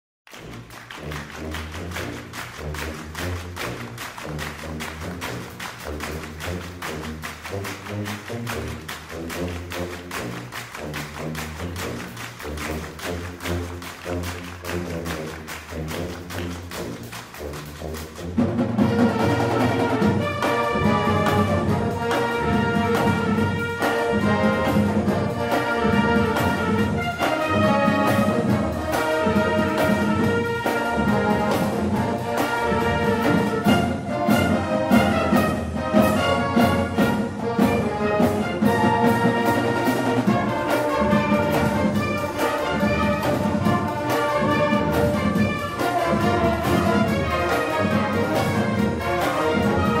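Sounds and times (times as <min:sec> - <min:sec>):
orchestral brass music: 0:00.3 - 0:50.0.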